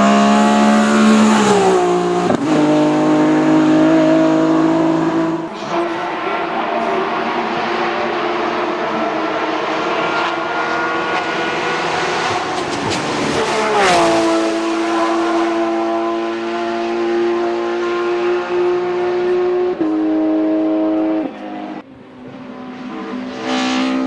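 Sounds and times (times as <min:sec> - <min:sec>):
racing car engine at high revs: 0:00.0 - 0:24.0.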